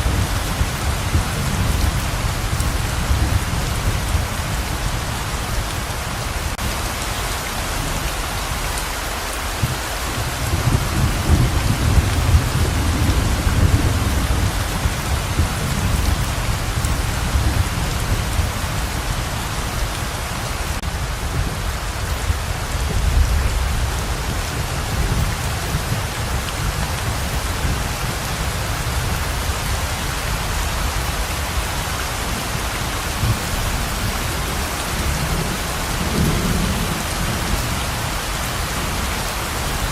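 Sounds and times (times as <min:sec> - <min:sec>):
thunder rumbling: 0:00.0 - 0:06.8, 0:09.4 - 0:39.9
heavy rain pouring: 0:00.0 - 0:39.9.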